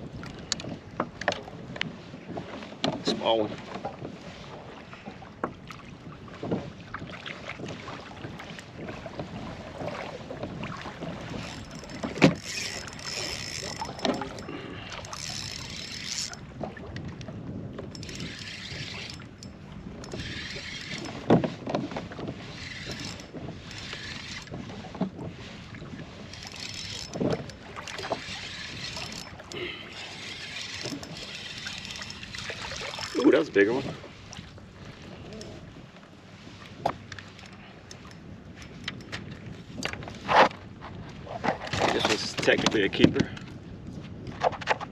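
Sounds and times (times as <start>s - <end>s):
water splashing around kayak: 0.0s - 44.9s
wind on microphone: 0.0s - 44.9s.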